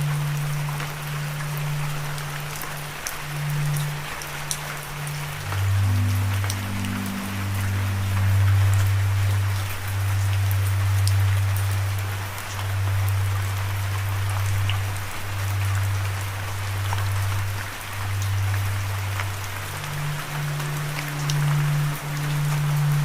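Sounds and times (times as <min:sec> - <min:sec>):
low musical drone: 0:00.0 - 0:23.0
steady rain falling: 0:00.0 - 0:23.0.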